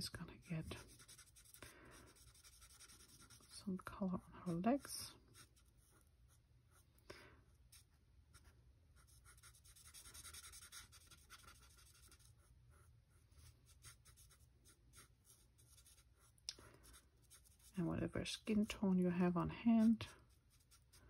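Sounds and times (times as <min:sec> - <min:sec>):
marker scratching on cardstock: 0:00.0 - 0:03.6, 0:04.4 - 0:06.8, 0:07.6 - 0:17.7, 0:19.8 - 0:21.0.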